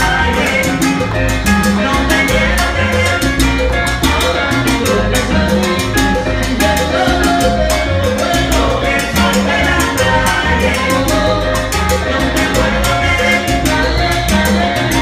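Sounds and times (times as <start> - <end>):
salsa band playing: 0.0 - 15.0.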